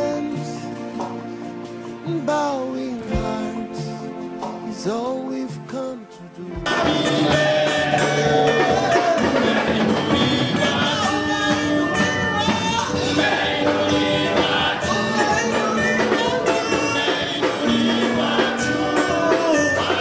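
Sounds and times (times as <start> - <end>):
live band playing: 0.0 - 20.0
men's choir singing: 2.2 - 20.0.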